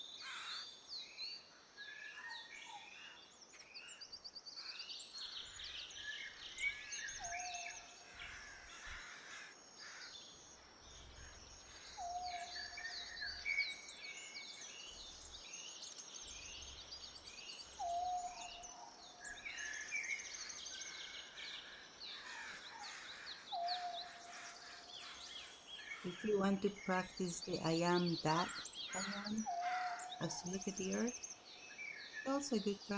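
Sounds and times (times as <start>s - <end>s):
birds chirping and trilling: 0.0s - 32.9s.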